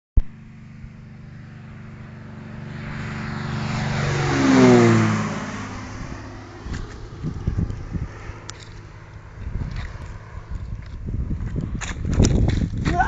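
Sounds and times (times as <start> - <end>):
light aircraft engine overhead: 0.2 - 13.0.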